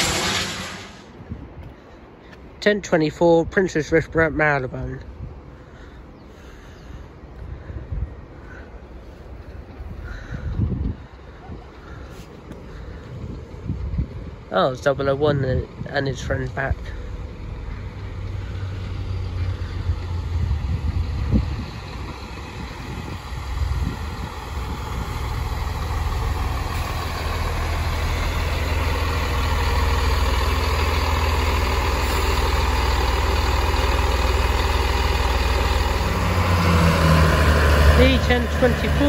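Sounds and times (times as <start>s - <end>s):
diesel train rumbling: 0.0s - 39.0s.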